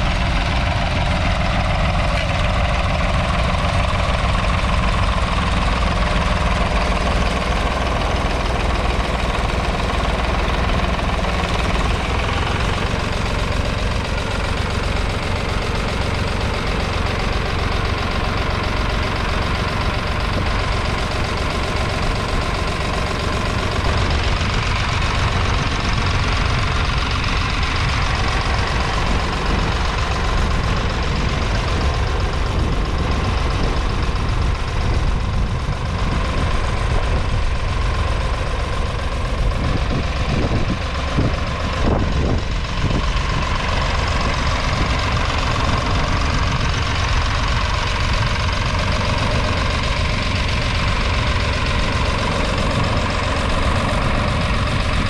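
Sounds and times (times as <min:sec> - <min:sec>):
tractor diesel engine clattering: 0:00.0 - 0:55.0.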